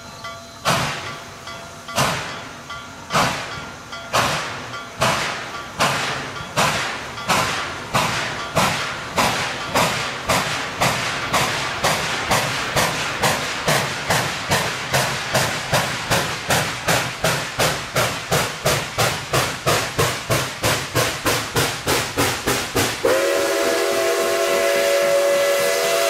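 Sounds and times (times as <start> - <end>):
steam locomotive chuffing: 0.0 - 26.0.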